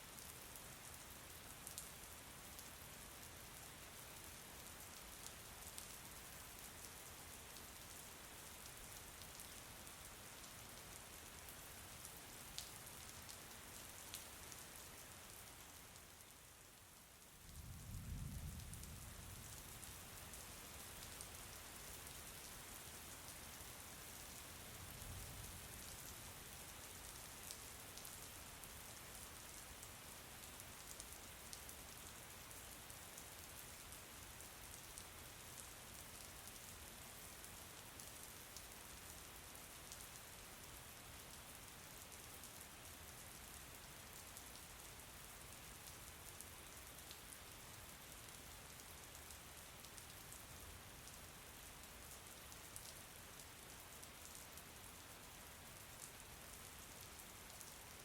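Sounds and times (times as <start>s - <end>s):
faint rain falling: 0.0s - 58.0s.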